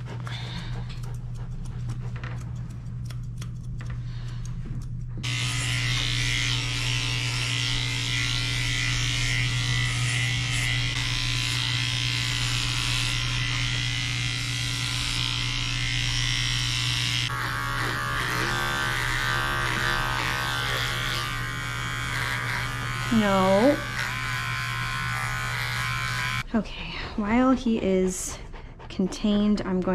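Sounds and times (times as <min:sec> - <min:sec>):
electric clippers humming: 0:00.0 - 0:26.5.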